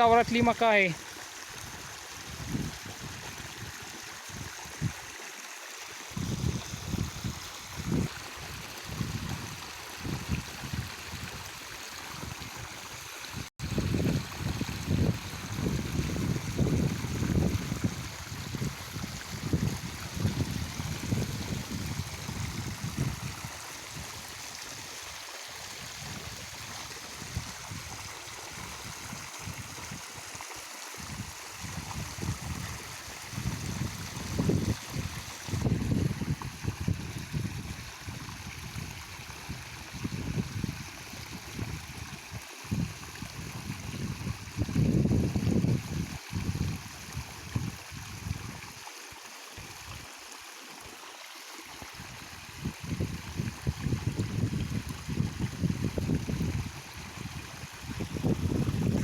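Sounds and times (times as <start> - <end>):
water flowing along a furrow: 0.0 - 59.0.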